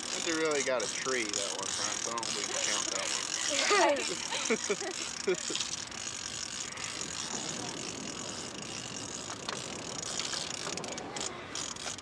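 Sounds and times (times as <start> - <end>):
fishing reel gear ratcheting: 0.0 - 12.0.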